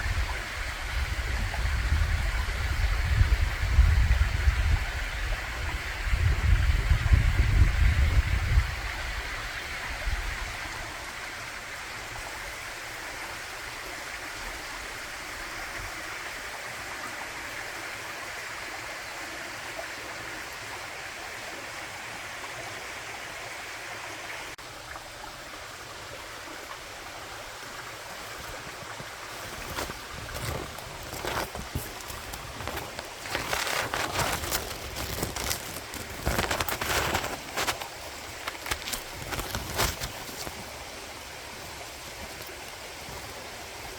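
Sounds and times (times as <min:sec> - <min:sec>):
stream running: 0:00.0 - 0:43.9.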